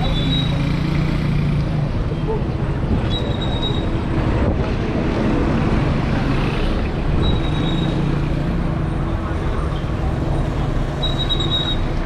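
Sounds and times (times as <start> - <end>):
car and motorbike engines: 0.0 - 12.0.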